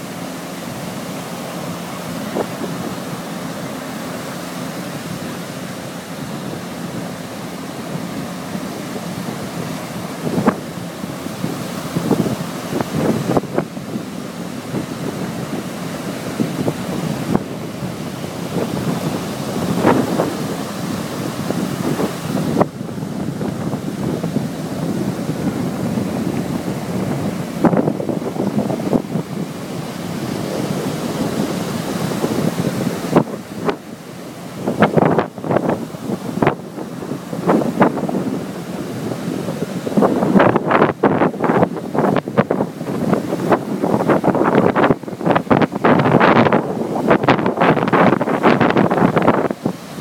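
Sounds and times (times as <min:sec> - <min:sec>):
low engine hum: 0:00.0 - 0:50.0
surf breaking on a beach: 0:00.0 - 0:50.0
wind buffeting microphone: 0:00.0 - 0:50.0.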